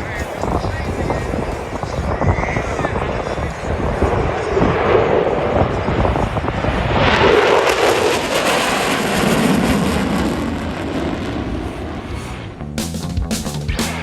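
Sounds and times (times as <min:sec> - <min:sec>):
jet flying past: 0:00.0 - 0:12.6.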